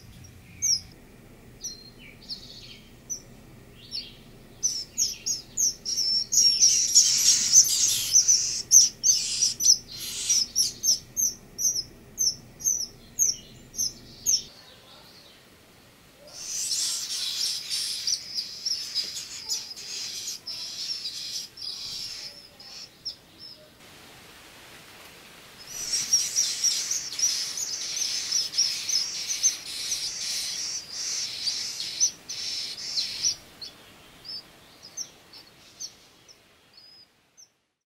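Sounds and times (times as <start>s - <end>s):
nestlings begging calls: 0.0s - 15.4s, 16.2s - 23.7s, 25.6s - 37.5s.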